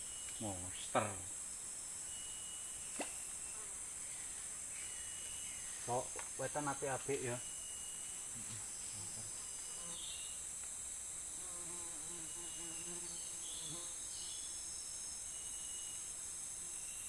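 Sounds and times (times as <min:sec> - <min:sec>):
chorus of forest insects: 0:00.0 - 0:17.0.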